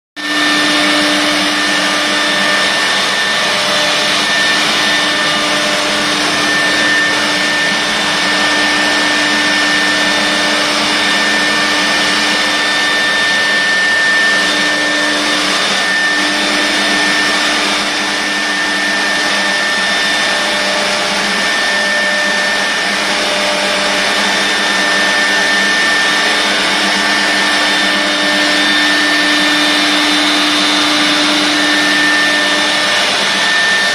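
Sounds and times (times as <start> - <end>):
dust extraction suction: 0.2 - 33.9
router spindle milling whine: 0.2 - 33.9.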